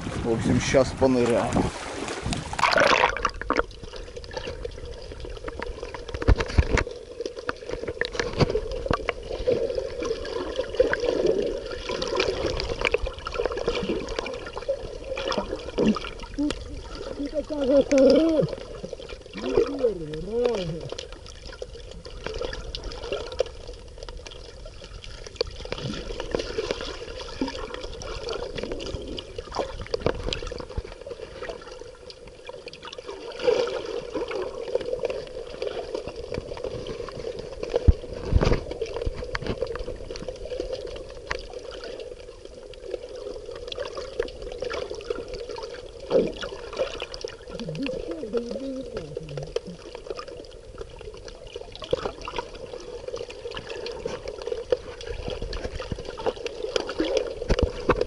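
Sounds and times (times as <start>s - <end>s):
sea water sloshing: 0.0s - 58.0s.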